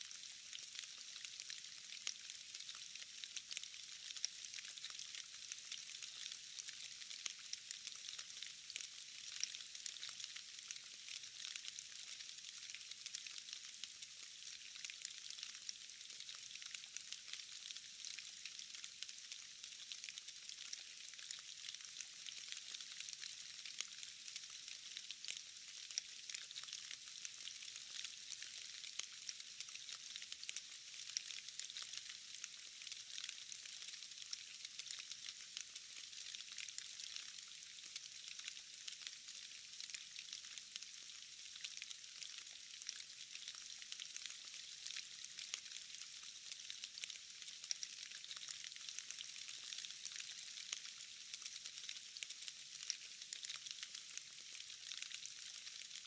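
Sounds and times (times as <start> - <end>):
rain falling into puddle: 0.0 - 56.0.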